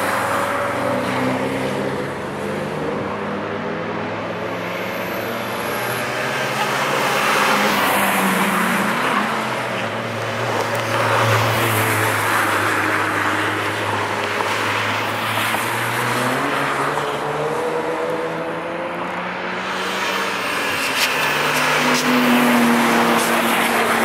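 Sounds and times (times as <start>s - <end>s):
race cars driving past: 0.0s - 24.0s.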